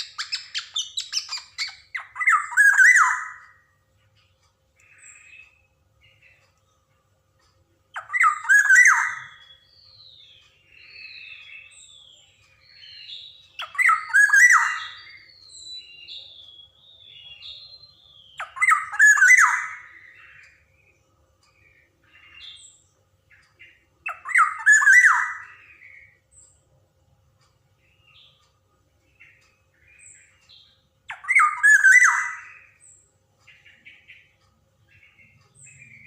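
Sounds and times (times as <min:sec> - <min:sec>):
bird harsh calls: 0:00.0 - 0:06.6, 0:07.9 - 0:21.0, 0:21.6 - 0:26.2, 0:29.1 - 0:36.0.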